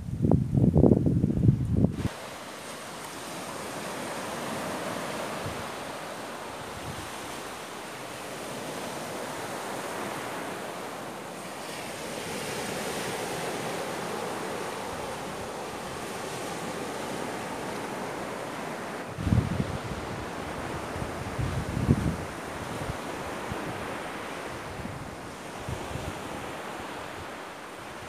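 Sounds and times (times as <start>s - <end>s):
ocean waves washing up beach: 1.9s - 28.0s.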